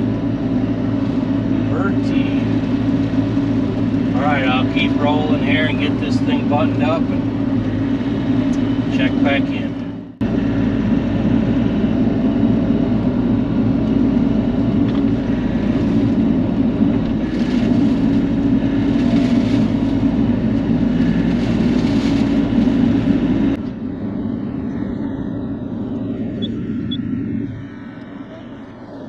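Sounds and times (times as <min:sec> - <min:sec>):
diesel engine drone: 0:00.0 - 0:29.0.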